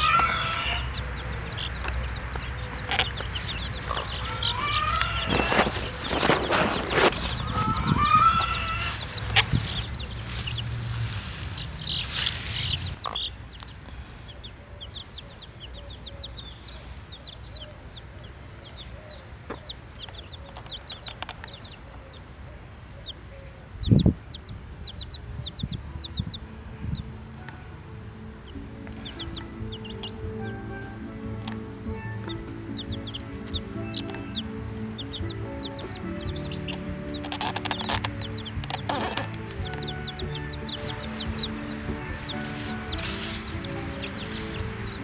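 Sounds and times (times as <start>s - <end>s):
baby chicks peeping: 0.0s - 45.0s
chickens clucking: 0.0s - 45.0s.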